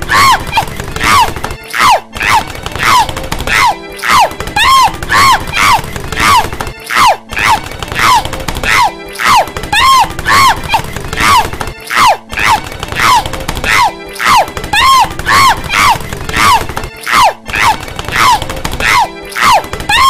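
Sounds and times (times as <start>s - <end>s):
cartoon woman yelping: 0.0s - 20.0s.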